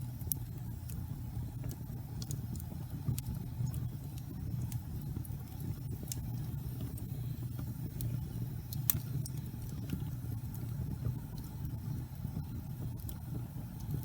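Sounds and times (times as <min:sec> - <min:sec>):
fire crackles and pops: 0:00.0 - 0:14.0
flames rumbling in fireplace: 0:00.0 - 0:14.0.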